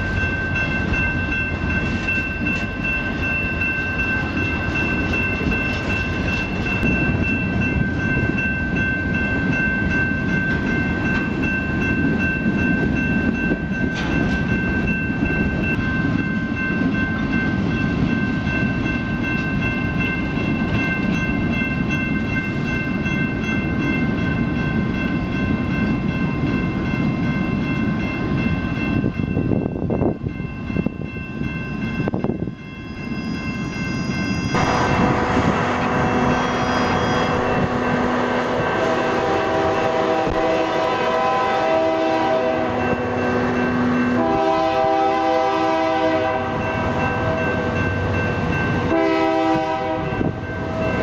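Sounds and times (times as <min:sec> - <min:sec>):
steady high ringing tones: 0:00.0 - 0:41.3
train wheels rumbling on rails: 0:00.0 - 0:51.0.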